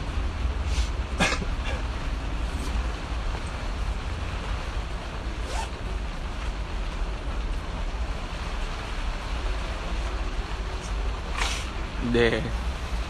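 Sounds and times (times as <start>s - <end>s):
vehicle cabin rumble: 0.0s - 13.0s.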